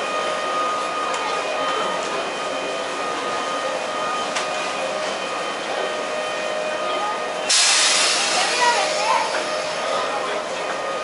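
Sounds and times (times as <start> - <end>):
train electric whine: 0.0 - 11.0.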